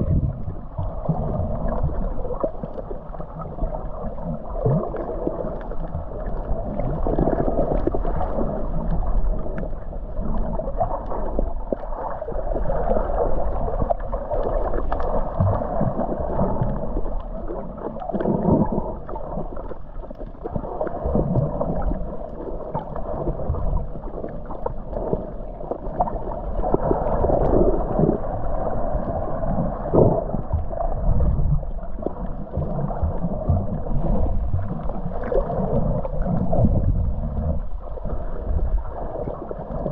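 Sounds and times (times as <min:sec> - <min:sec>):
muffled underwater gurgling rush: 0:00.0 - 0:39.9.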